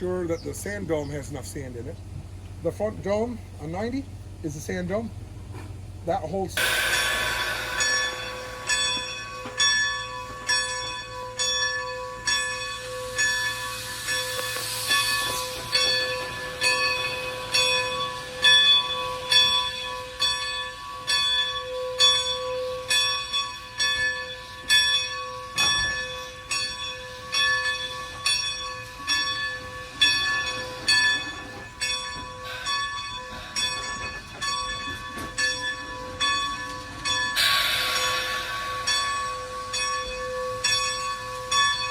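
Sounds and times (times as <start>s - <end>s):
locomotive bell ringing: 6.6s - 41.9s.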